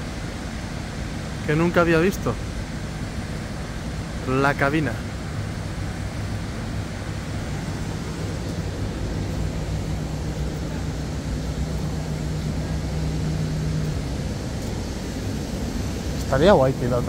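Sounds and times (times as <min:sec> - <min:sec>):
steady hum: 0:00.0 - 0:17.0
train low drone: 0:00.0 - 0:17.0.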